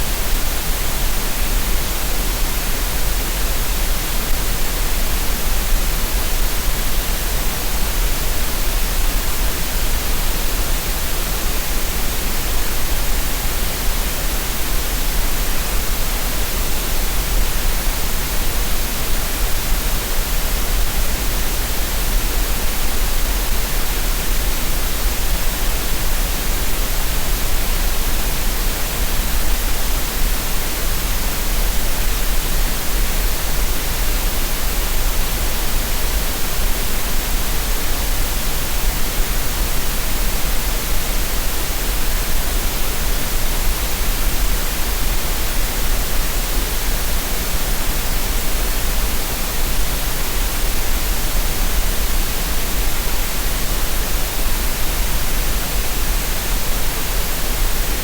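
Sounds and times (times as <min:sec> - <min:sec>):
steady green noise hiss: 0:00.0 - 0:58.0.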